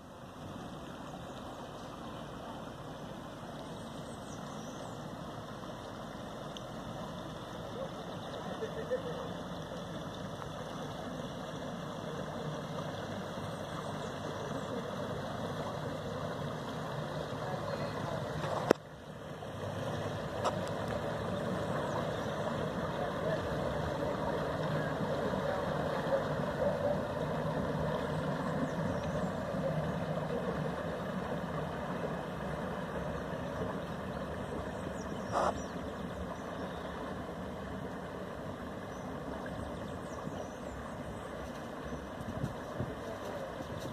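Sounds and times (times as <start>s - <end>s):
boat engine running: 0.0s - 43.9s.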